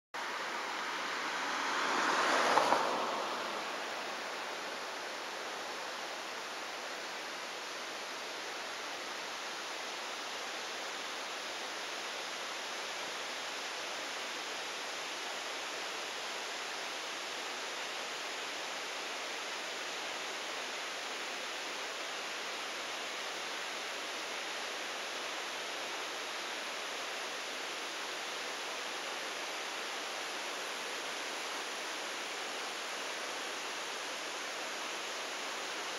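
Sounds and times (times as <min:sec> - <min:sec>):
outdoor rushing hiss: 0:00.2 - 0:35.9.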